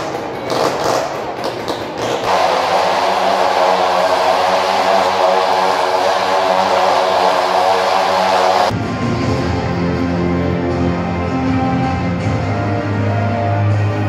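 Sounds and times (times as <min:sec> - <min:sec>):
motorcycle engine buzzing drone: 0:00.2 - 0:14.0.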